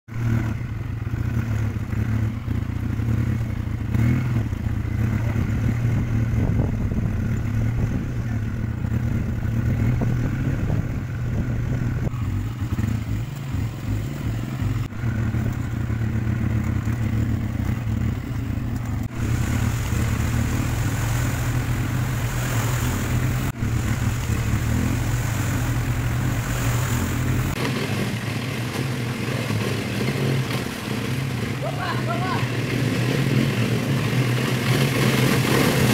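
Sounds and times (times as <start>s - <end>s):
quad bike engine running: 0.1s - 35.9s.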